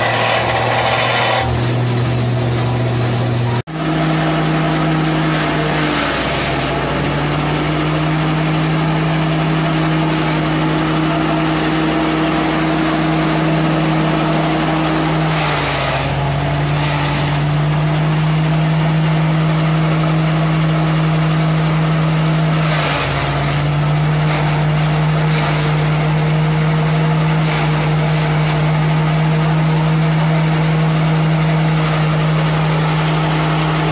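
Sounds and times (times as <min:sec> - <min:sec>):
small gasoline engine running: 0:00.0 - 0:33.9.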